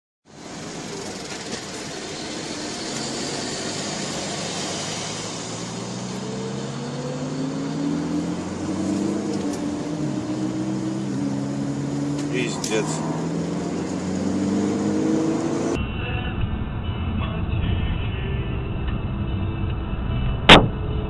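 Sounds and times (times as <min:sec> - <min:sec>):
car engine: 0:00.2 - 0:21.0
road noise in car cabin: 0:00.3 - 0:21.0.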